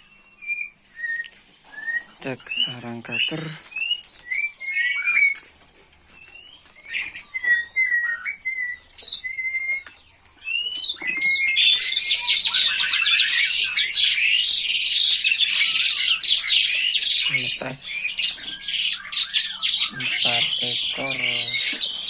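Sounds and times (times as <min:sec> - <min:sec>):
whistled bird chirps: 0:00.0 - 0:05.4, 0:06.2 - 0:22.0
nestlings begging chirping: 0:00.0 - 0:22.0.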